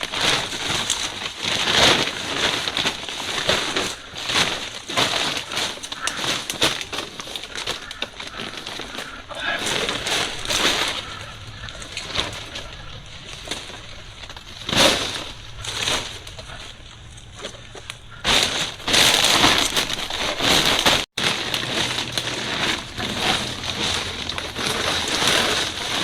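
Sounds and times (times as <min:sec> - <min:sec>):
crunching and crackling clicks: 0:00.0 - 0:26.0.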